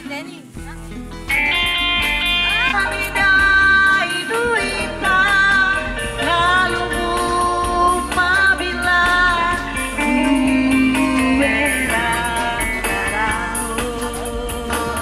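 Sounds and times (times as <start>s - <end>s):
song with sung melody: 0.0s - 15.0s.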